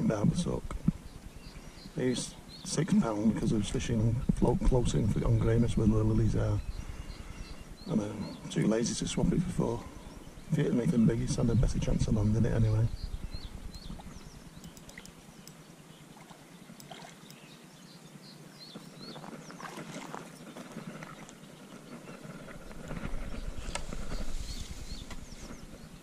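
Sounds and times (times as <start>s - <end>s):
faint small birds chirping: 0.0s - 26.0s.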